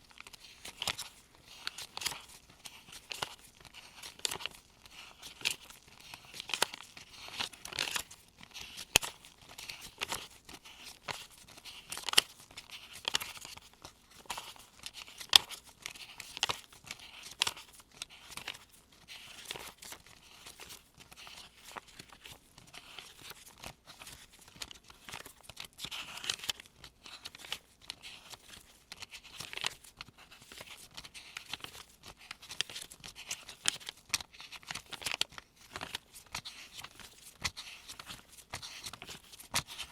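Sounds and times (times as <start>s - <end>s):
paper bills snapping and rustling: 0.1s - 39.9s.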